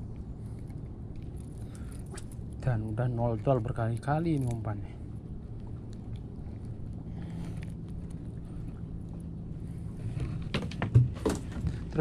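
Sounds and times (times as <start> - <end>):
boat engine humming: 0.0 - 12.0
low rumble: 0.0 - 12.0.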